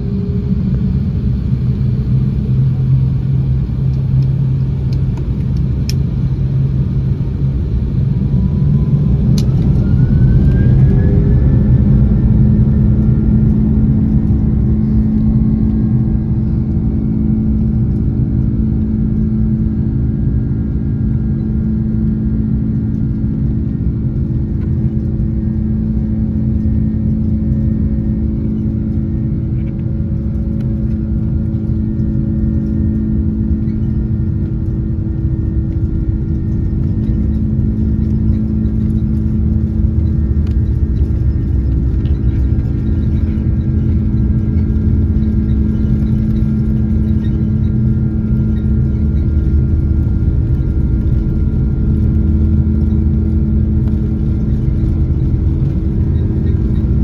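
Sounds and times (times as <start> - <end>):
jet engines whining: 0.0 - 57.0
low engine rumble: 0.0 - 57.0.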